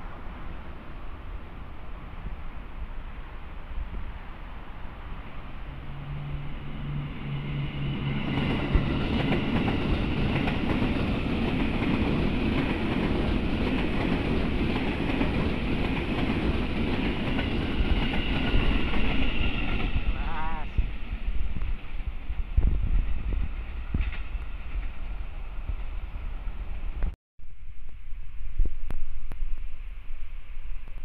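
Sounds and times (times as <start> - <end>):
electric train passing: 0.0 - 28.5.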